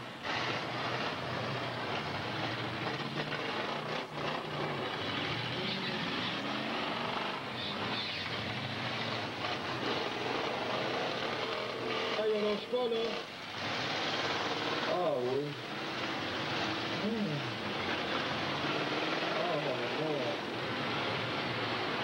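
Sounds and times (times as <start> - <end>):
car engines running and revving: 0.0 - 22.0.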